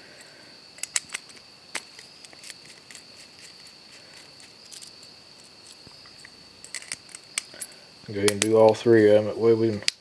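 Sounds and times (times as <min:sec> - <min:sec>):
high-pitched insect chirring: 0:00.5 - 0:10.0.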